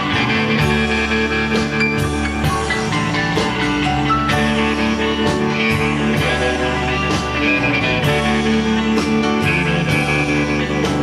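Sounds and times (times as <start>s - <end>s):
bass guitar: 0.0s - 11.0s
electric guitars sustained notes: 0.0s - 11.0s.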